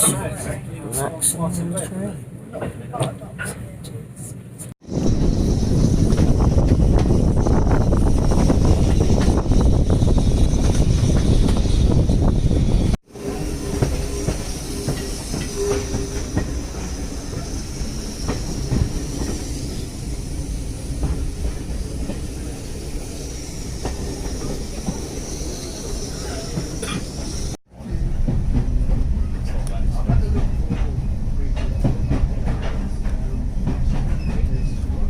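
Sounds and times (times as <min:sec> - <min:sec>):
railway carriage rumble: 0:00.0 - 0:35.0.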